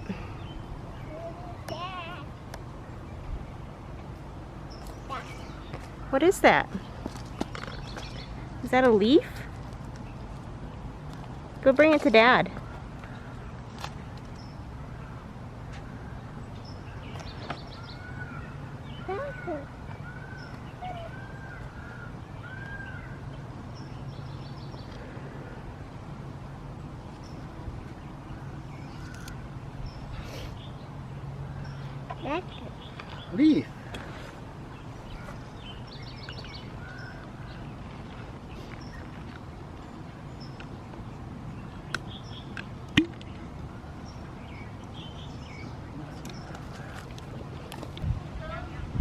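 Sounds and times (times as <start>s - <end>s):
birds calling: 0.0s - 49.0s
outdoor background noise: 0.0s - 49.0s.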